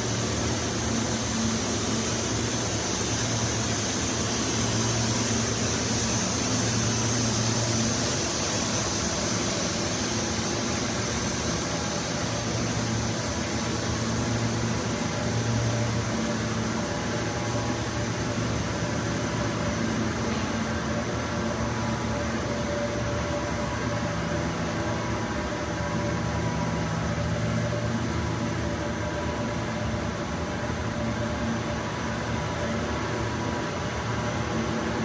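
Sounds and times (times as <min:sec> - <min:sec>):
fans and blowers droning: 0:00.0 - 0:35.0.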